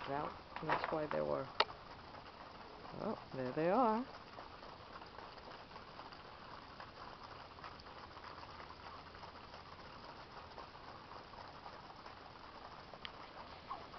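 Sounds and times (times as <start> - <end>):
turkeys pecking corn: 0.0 - 13.9.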